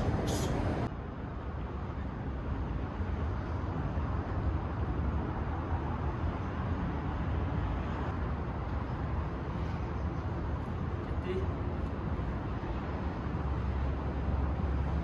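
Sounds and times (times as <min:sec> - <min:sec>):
open-air background rumble: 0:00.0 - 0:15.0.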